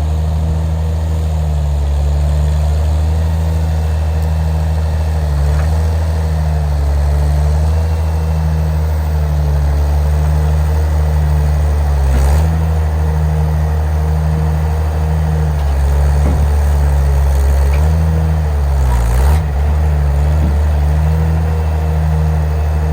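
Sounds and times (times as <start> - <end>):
vehicle engine droning: 0.0 - 22.9.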